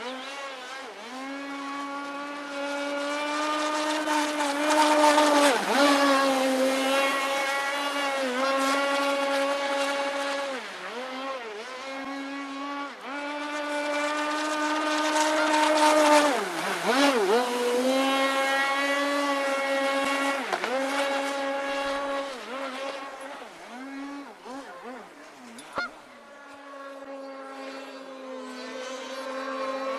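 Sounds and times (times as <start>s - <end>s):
model boat motor whining: 0.0s - 29.9s.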